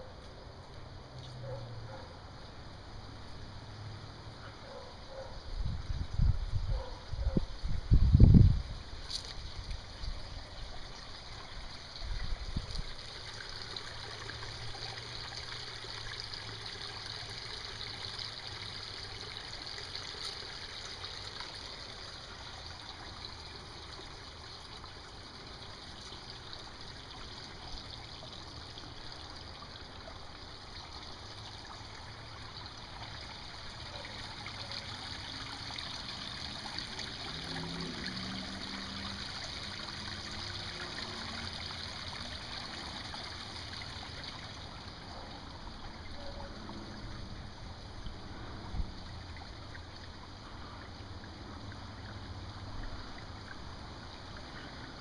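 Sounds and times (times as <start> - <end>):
water trickling over rocks: 0.0 - 55.0.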